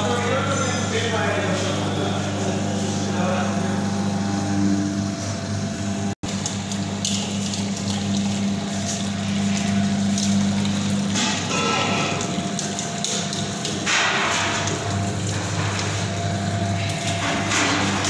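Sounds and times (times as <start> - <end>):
juice machine motor hum: 0.0 - 18.0.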